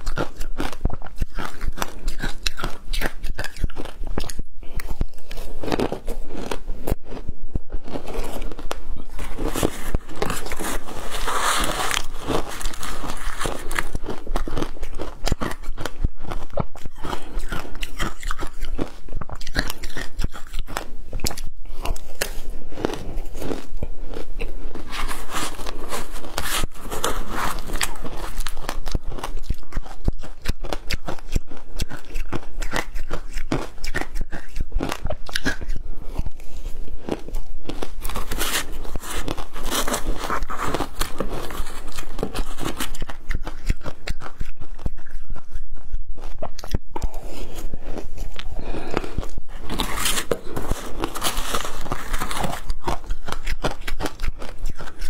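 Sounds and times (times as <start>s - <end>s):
crunching and chewing ice: 0.0s - 55.0s.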